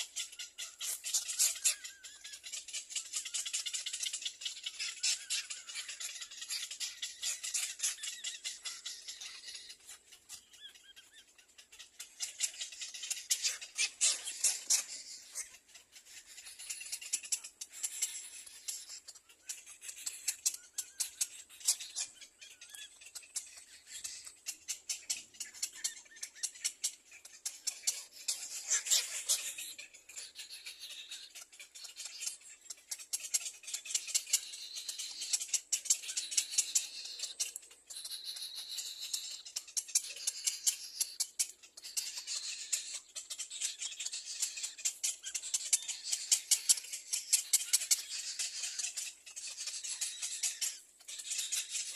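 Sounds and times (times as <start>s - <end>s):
nestlings begging chirps: 0.0s - 51.9s.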